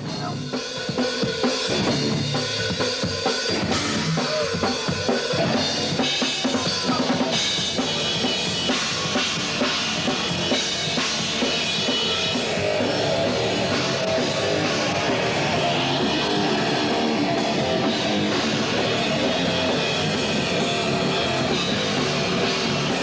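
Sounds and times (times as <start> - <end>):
drums: 0.0 - 23.0
live rock band playing: 0.0 - 23.0.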